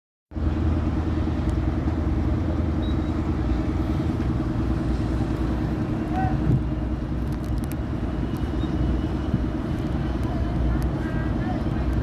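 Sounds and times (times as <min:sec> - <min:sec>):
engine droning: 0:00.3 - 0:12.0.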